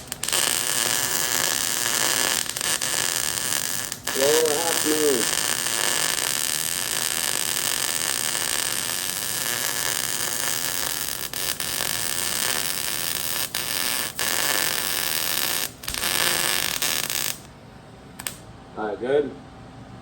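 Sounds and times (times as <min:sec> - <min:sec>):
welder arc crackling: 0:00.0 - 0:18.4.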